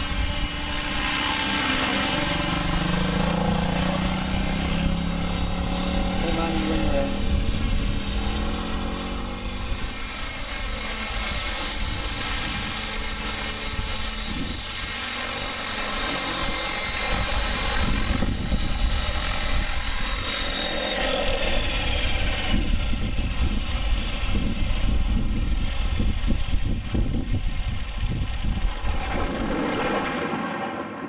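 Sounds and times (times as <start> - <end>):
model helicopter whine: 0.0 - 30.2
wind buffeting microphone: 2.4 - 15.0, 17.0 - 20.3, 21.4 - 31.0.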